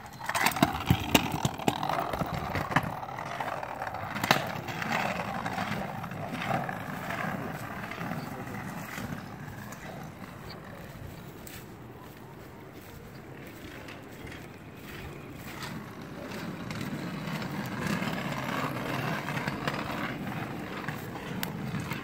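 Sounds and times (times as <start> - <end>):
scooter wheels rolling on concrete: 0.0 - 22.0.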